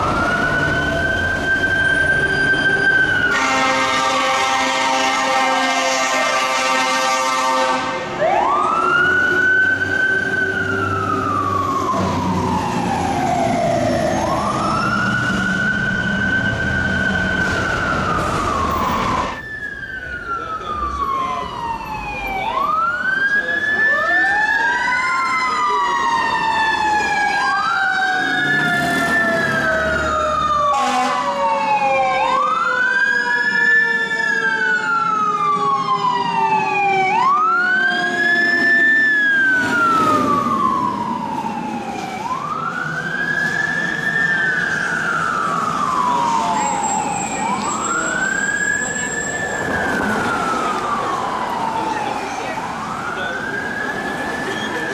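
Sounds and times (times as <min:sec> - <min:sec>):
mechanical siren wailing: 0:00.0 - 0:07.6, 0:08.2 - 0:54.9
second siren winding down: 0:00.0 - 0:54.9.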